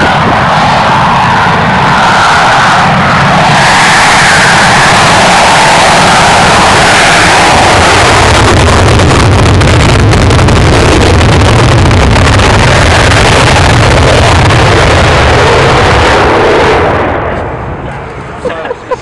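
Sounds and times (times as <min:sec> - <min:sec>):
loud jet engine roar: 0:00.0 - 0:19.0.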